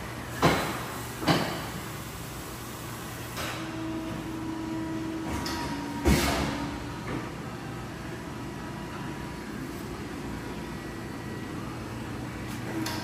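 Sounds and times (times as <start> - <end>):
workshop hum and hiss: 0.0 - 13.0.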